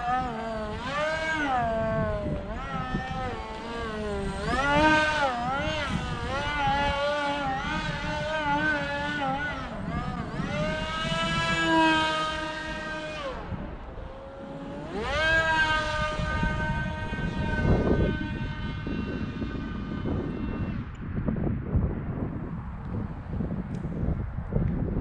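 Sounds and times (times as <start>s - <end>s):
model plane motor whining: 0.0s - 21.1s.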